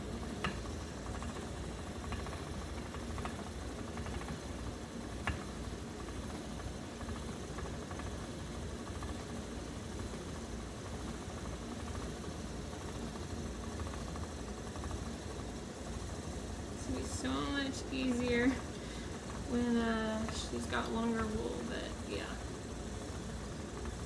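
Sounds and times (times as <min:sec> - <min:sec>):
spinning wheel whirring: 0:00.0 - 0:24.0.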